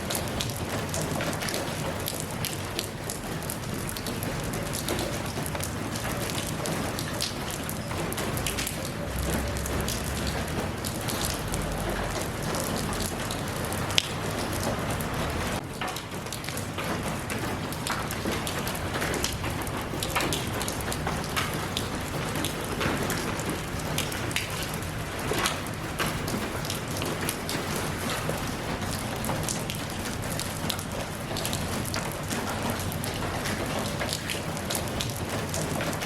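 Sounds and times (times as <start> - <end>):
raindrops ticking close by: 0.0 - 36.0
steady rain falling: 0.0 - 36.0.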